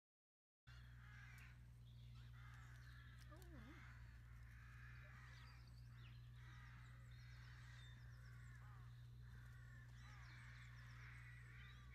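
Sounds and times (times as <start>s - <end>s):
harsh bird caws: 0.7s - 11.9s
steady low hum: 0.7s - 11.9s.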